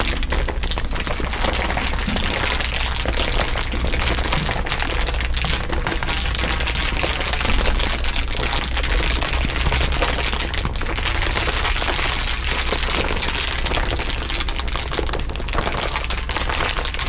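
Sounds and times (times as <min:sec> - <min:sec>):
steady low hum: 0:00.0 - 0:14.1
continuous crinkling and crackling: 0:00.0 - 0:17.0.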